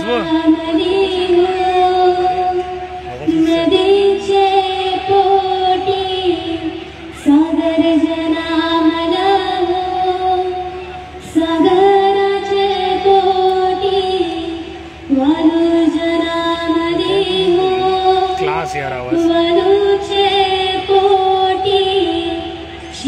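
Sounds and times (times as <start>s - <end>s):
woman singing long held notes: 0.0s - 18.4s, 19.2s - 23.0s.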